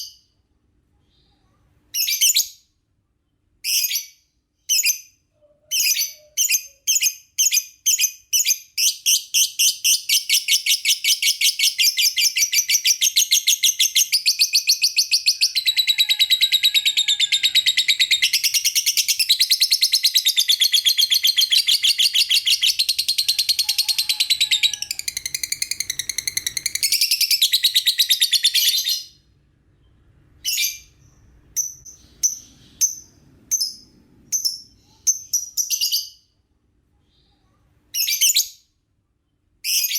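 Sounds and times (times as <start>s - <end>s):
bird chirping and trilling: 3.6s - 36.3s, 37.1s - 38.7s.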